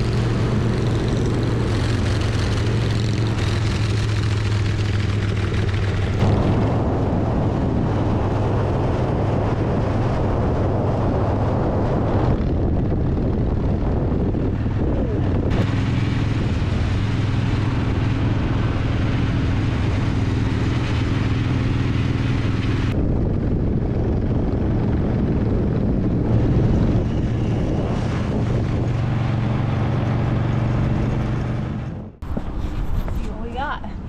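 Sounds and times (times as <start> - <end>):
motorcycle engine cruising: 0.0 - 33.4
wind and road rush: 0.0 - 34.0.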